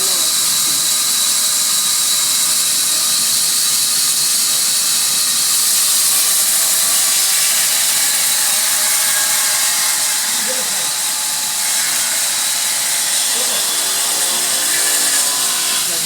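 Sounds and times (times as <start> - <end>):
sawmill saw hissing: 0.0 - 16.0.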